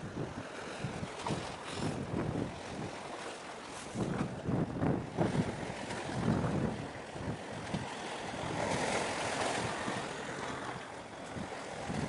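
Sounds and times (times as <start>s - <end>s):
wind gusting on microphone: 0.0s - 3.1s, 3.8s - 12.0s
sea noise: 0.0s - 12.0s.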